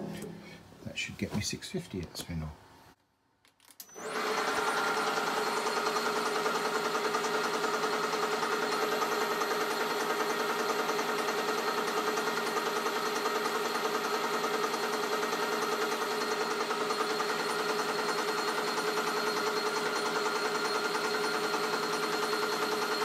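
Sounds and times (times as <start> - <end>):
metal lathe running: 4.0 - 23.0.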